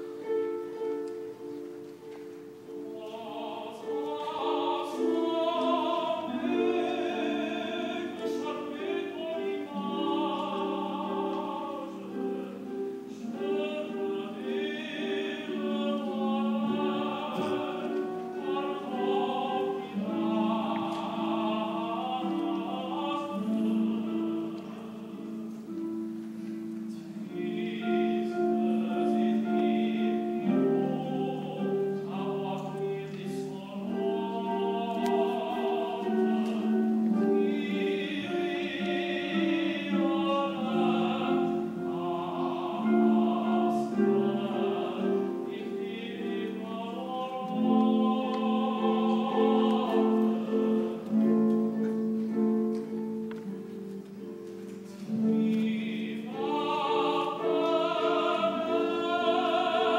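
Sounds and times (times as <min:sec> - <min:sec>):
long held accompaniment chords: 0:00.0 - 0:59.9
young man singing operatically: 0:02.7 - 0:25.7, 0:27.1 - 0:51.8, 0:55.1 - 0:59.9.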